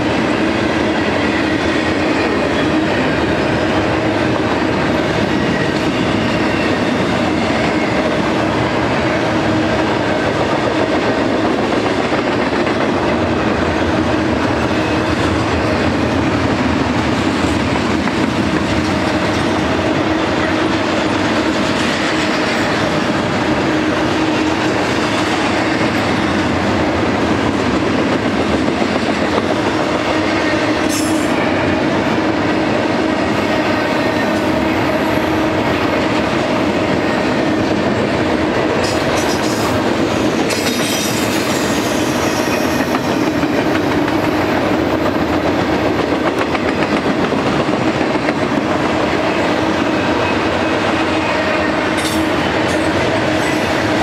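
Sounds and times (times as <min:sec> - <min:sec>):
train wheels clattering on rail: 0:00.0 - 0:54.0.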